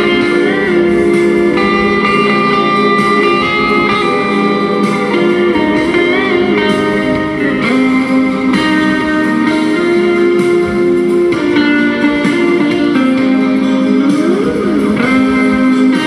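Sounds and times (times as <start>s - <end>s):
electric guitar slow melody: 0.0s - 16.0s.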